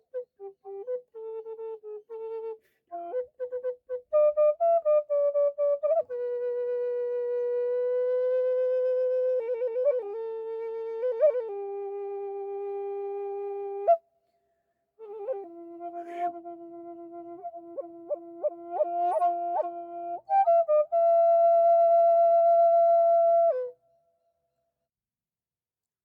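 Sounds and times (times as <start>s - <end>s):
solo flute melody: 0.0s - 14.1s, 15.0s - 24.2s.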